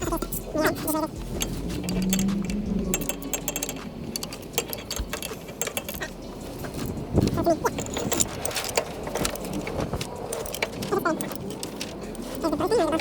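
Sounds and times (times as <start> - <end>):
metal hand tools clinking: 0.0 - 13.0.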